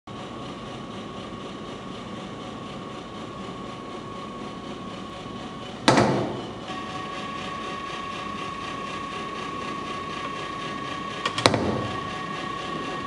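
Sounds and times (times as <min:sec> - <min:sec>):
mechanical hum with whine: 0:00.1 - 0:13.0.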